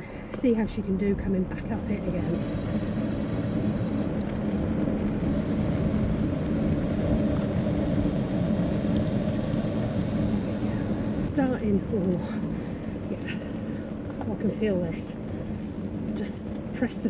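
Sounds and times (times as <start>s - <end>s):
tyres rolling on asphalt: 0.0s - 17.0s
wind on microphone: 0.7s - 17.0s.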